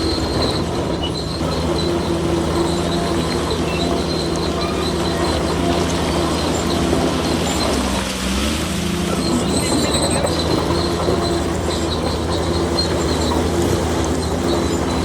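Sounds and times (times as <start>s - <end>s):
crawler tracks squealing and clanking: 0.0s - 15.0s
diesel engine under load: 0.0s - 15.0s.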